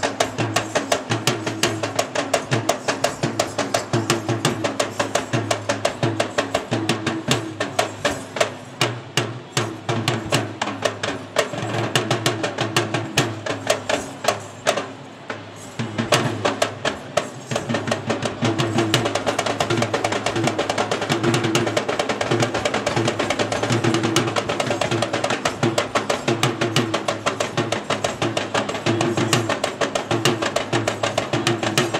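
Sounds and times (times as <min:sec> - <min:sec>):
hand drums beating fast rhythm: 0:00.0 - 0:31.9.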